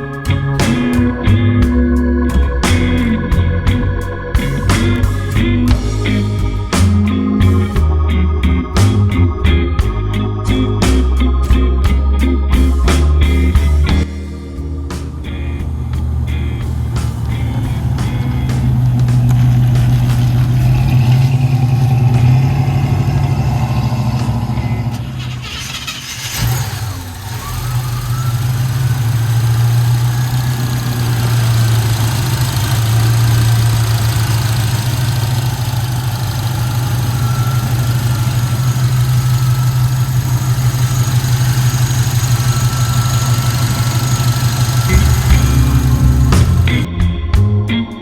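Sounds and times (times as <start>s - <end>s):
pickup engine running: 0.0s - 48.0s.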